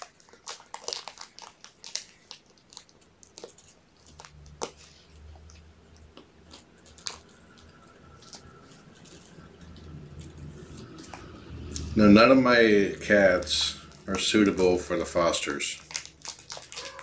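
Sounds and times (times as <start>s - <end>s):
low steady hum: 0.0s - 16.8s
kittens chewing crunchy food: 0.0s - 17.0s.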